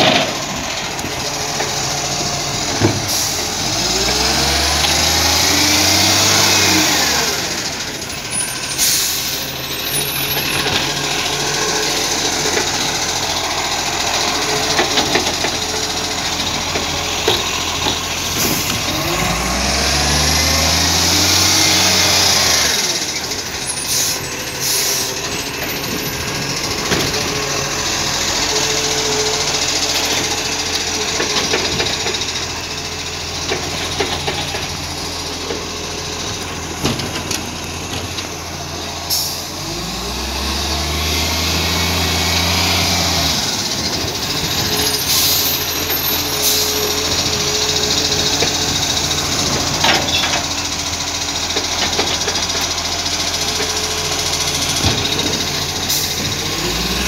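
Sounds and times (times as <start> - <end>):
garbage truck diesel engine: 0.0 - 57.0.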